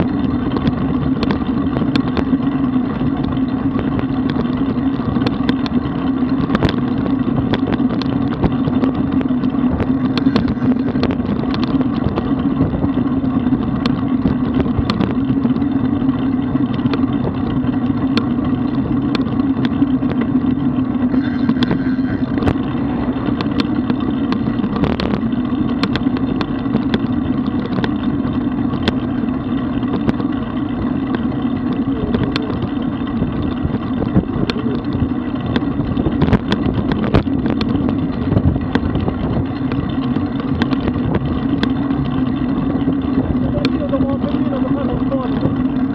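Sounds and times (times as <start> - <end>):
wind noise: 0.0 - 29.2, 29.8 - 45.9.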